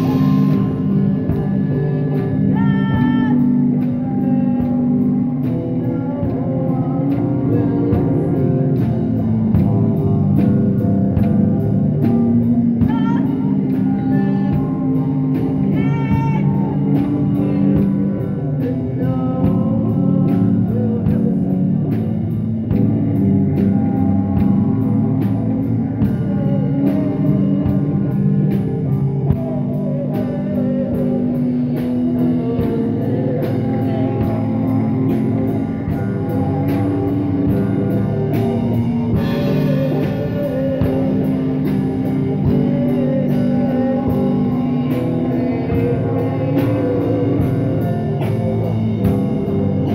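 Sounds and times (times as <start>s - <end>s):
drum kit beat: 0.0s - 49.9s
electric guitar: 0.0s - 49.9s
person singing: 0.0s - 49.9s.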